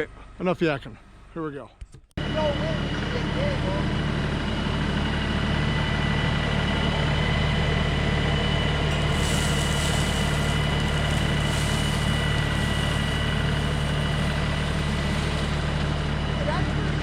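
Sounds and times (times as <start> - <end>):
tractor diesel engine with whine: 2.2 - 17.0.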